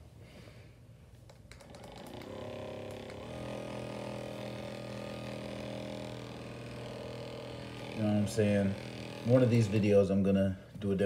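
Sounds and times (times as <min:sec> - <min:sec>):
massage gun motor humming: 0:01.3 - 0:10.3.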